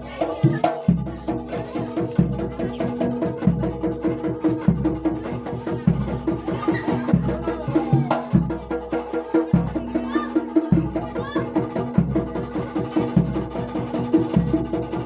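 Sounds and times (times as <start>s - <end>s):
rapid percussion strikes: 0.0s - 15.0s.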